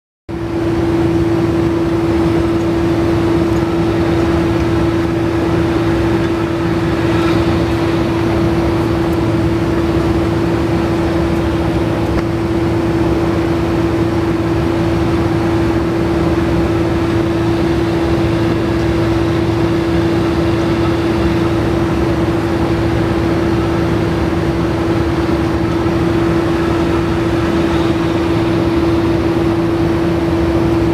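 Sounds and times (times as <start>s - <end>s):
constant hum: 0.3s - 30.9s.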